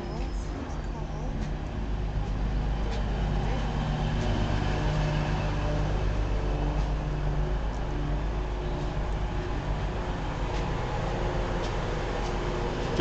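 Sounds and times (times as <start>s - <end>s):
train engine hum: 0.0s - 13.0s.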